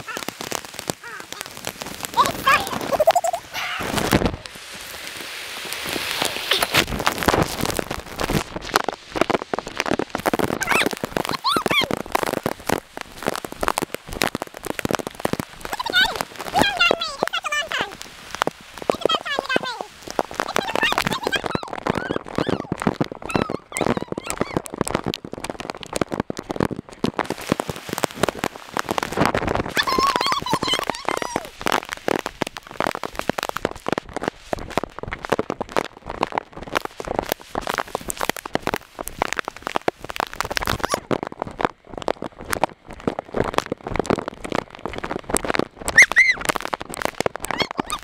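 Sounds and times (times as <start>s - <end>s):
rain pattering on plastic bag: 0.0s - 48.0s.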